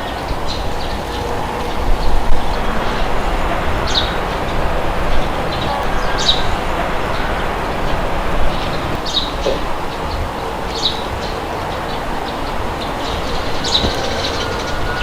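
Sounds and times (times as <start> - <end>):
wind with low rumble: 0.0 - 15.0.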